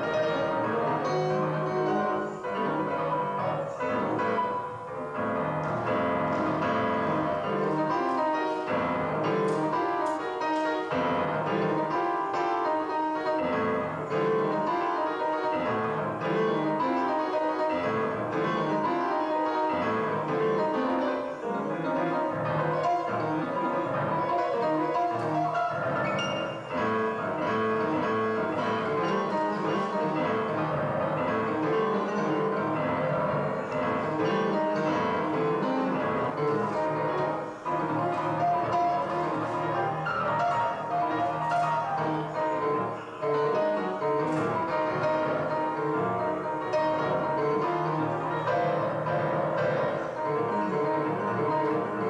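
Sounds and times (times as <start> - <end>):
piano music: 0.0 - 52.0.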